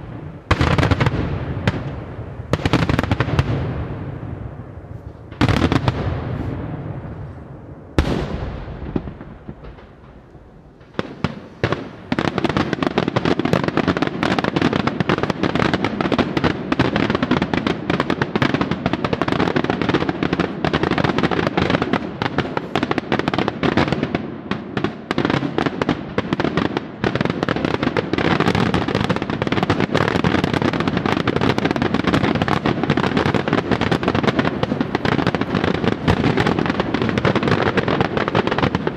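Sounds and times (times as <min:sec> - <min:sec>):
crackling fireworks: 0:00.0 - 0:38.9.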